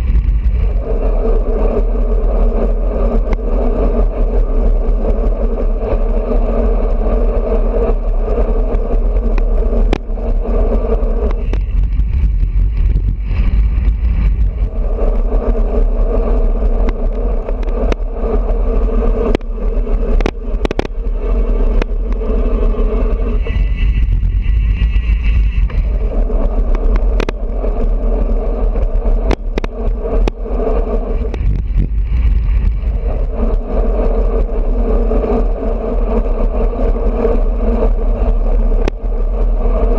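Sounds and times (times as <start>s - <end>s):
bicycle tyre and road noise: 0.0s - 39.9s
wind rushing over camera: 0.0s - 39.9s.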